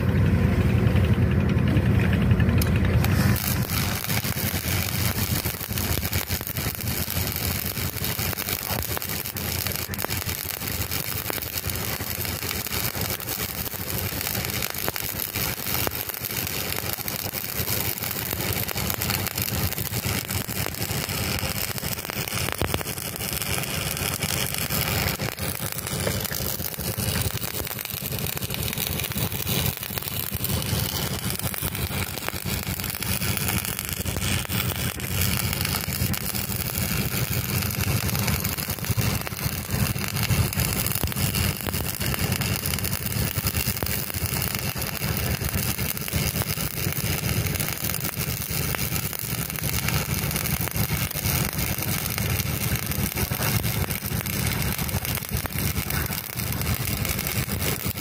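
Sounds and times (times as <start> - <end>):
low hum: 0.0 - 55.9
welding arc crackling: 0.0 - 58.0.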